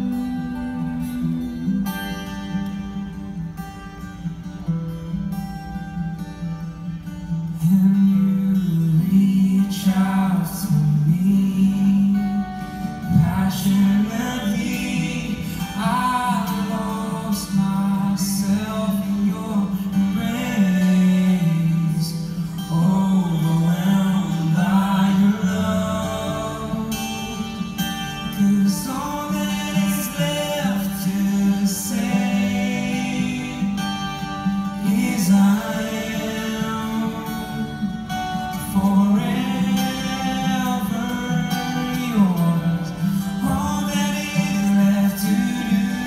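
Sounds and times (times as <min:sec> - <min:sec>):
strummed acoustic guitar: 0:00.0 - 0:46.0
man singing into microphone: 0:07.6 - 0:37.8, 0:38.6 - 0:46.0.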